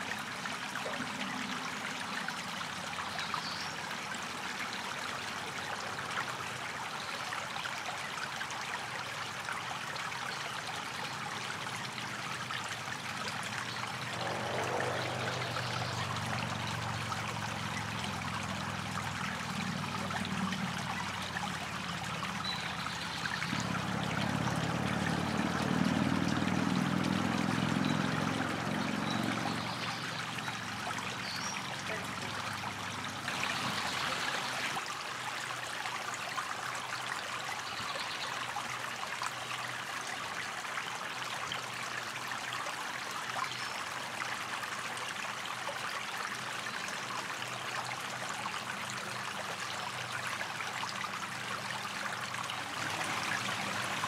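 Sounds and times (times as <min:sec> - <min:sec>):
creek water running over rocks: 0:00.0 - 0:54.0.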